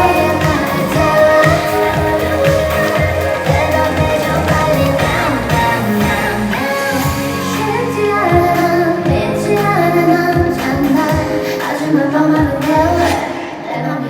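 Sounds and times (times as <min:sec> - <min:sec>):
bass and drums: 0:00.0 - 0:11.4, 0:12.4 - 0:13.2
woman singing pop song: 0:00.0 - 0:14.0.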